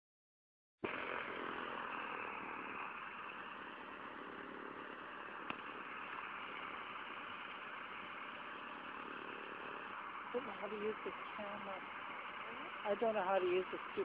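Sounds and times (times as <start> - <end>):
distant radial engine running: 0.9 - 14.0.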